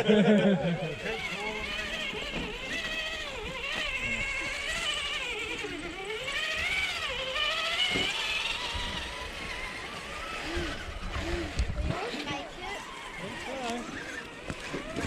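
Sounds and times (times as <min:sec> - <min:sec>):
rc truck electric motors whining: 0:00.0 - 0:15.0.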